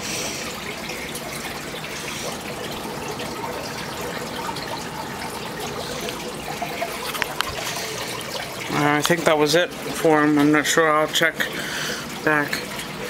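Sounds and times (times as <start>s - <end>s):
aquarium water trickling and bubbling: 0.0s - 13.0s.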